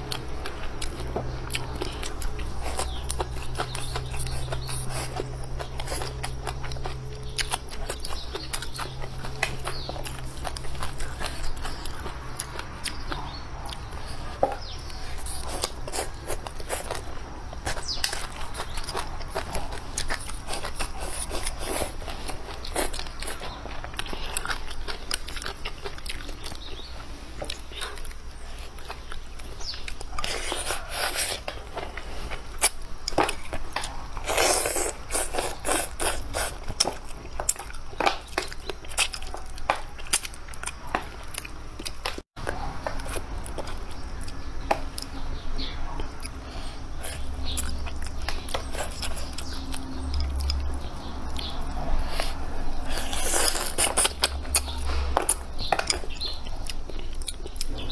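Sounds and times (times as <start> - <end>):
chewing and crunching food: 0.0 - 57.9
steady low hum: 0.0 - 57.9.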